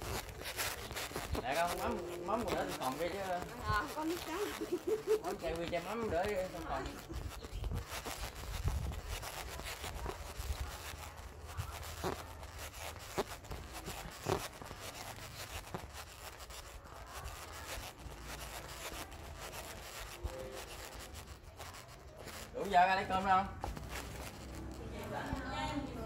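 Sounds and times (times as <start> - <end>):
microphone rubbing and rustling: 0.0 - 26.0.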